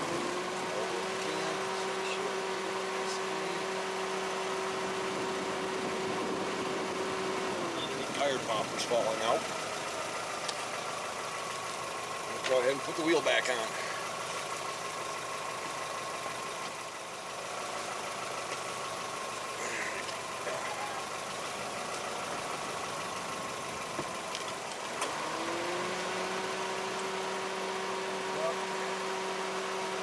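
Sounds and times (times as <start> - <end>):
engine-like hum: 0.0 - 30.0.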